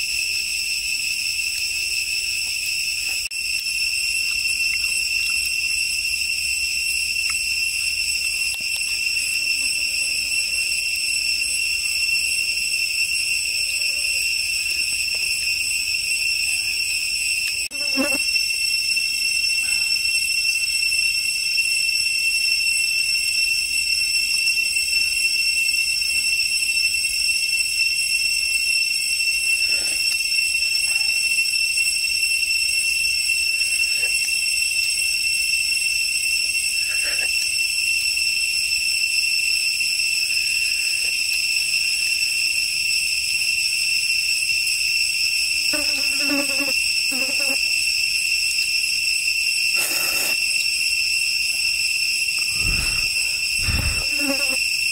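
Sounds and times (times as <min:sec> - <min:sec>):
insect drone: 0:00.0 - 0:54.9.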